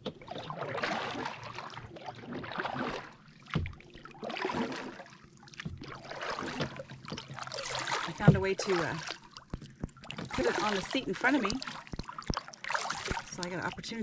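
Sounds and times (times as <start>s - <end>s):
paddle strokes in water: 0.0s - 14.0s.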